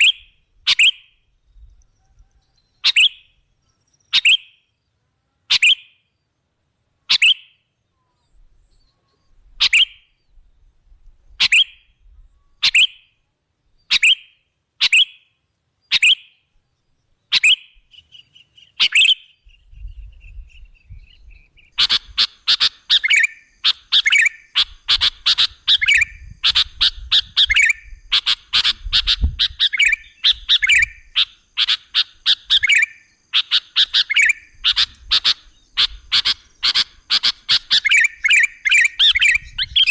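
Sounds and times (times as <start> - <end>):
bulbul calls: 0.0 - 1.2, 1.9 - 3.4, 4.1 - 4.6, 5.5 - 6.0, 7.1 - 10.2, 11.4 - 13.2, 13.9 - 16.5, 17.3 - 39.9.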